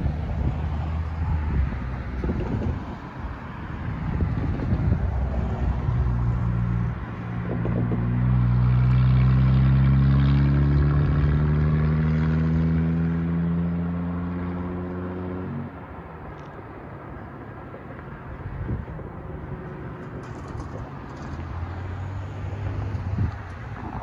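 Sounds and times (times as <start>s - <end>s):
vehicle engine accelerating: 0.0s - 16.5s, 18.7s - 24.0s.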